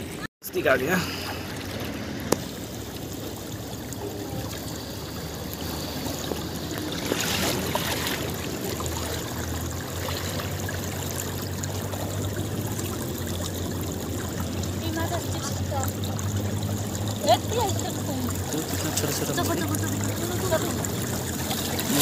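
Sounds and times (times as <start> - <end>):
shallow river water flowing: 0.0 - 22.0.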